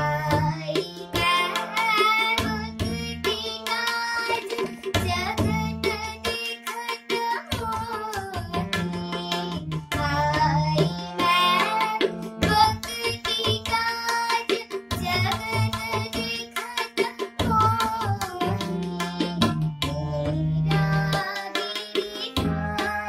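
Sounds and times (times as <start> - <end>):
girl singing: 0.0 - 23.0
harmonium: 0.0 - 23.0
tabla strokes: 0.0 - 23.0.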